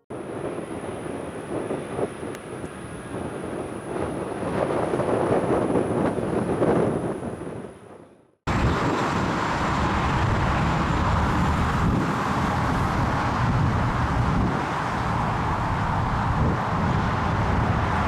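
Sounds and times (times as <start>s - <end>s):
gusty wind buffeting microphone: 0.1s - 18.0s.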